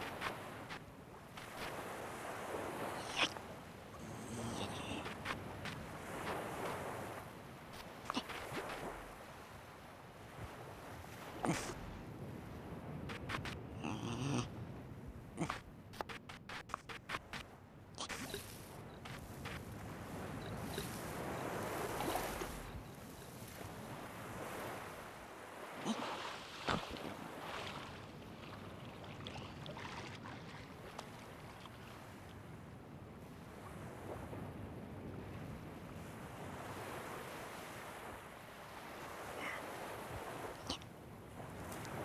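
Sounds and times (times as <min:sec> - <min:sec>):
gentle ocean surf: 0:00.0 - 0:42.0.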